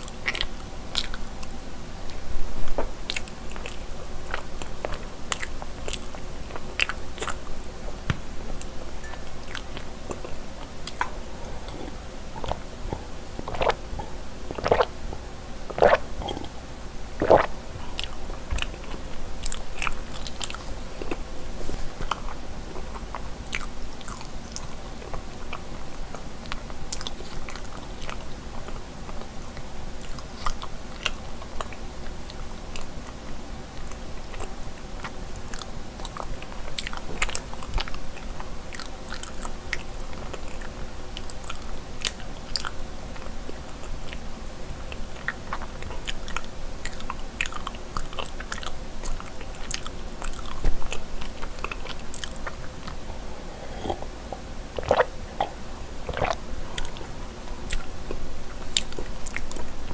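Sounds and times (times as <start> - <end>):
chewing with wet mouth clicks: 0.0 - 2.2, 2.8 - 7.5, 8.6 - 14.9, 15.7 - 16.6, 17.2 - 21.3, 22.0 - 44.3, 44.9 - 53.0, 53.8 - 59.7.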